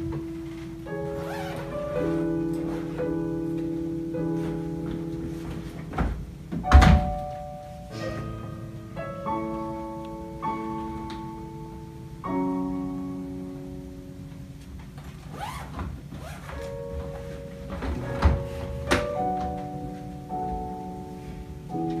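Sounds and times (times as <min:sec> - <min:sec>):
slow keyboard chords: 0:00.0 - 0:15.3, 0:16.0 - 0:22.0.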